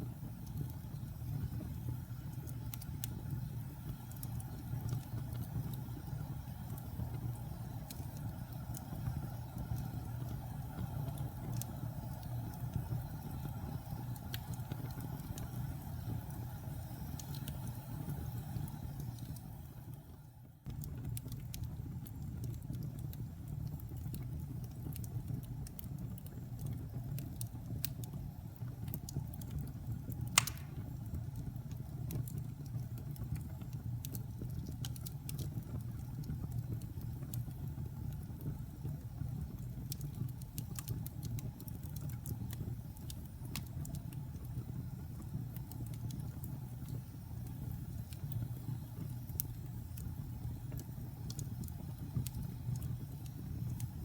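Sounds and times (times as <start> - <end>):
fire crackling and popping: 0.0 - 54.0
wood fire burning: 0.0 - 54.0.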